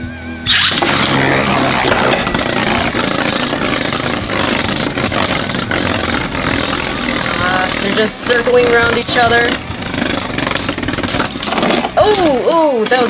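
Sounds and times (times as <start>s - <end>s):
spinning tops rattling whir: 0.5s - 13.0s.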